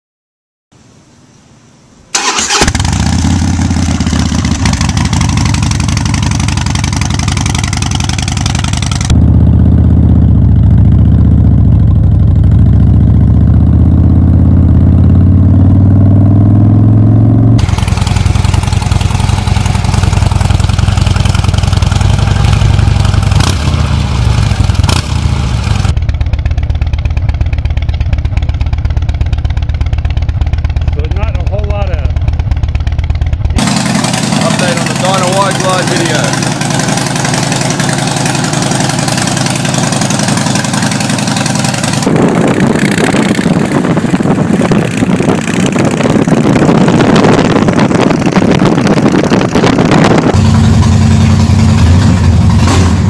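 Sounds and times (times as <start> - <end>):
motorcycle engine idling and revving: 2.1 - 53.0.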